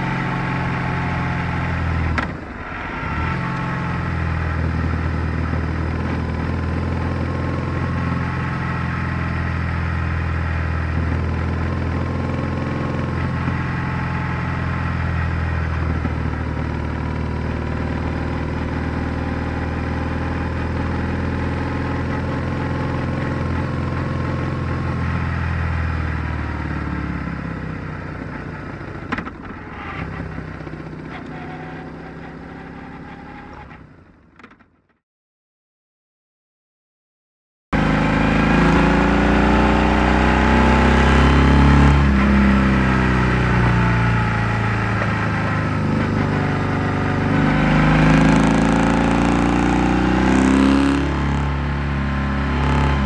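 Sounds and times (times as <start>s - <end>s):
motorcycle engine running: 0.0s - 33.1s, 37.8s - 53.0s.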